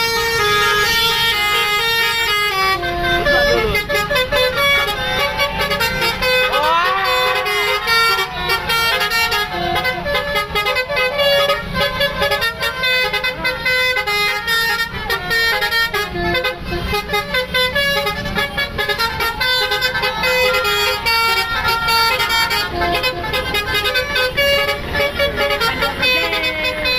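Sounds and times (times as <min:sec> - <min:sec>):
bus horn playing rapid melody: 0:00.0 - 0:26.9.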